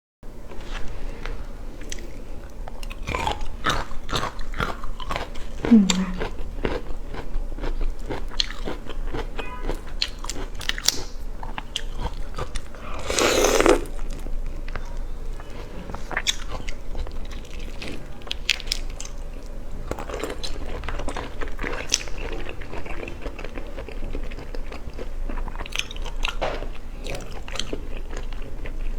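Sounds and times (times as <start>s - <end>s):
chewing seafood crunches: 1.8s - 28.9s.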